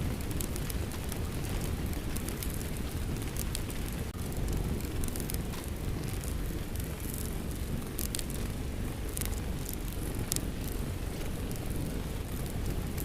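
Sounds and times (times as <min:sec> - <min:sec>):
steady rain: 0:00.0 - 0:13.0
wood fire crackling: 0:00.0 - 0:13.0.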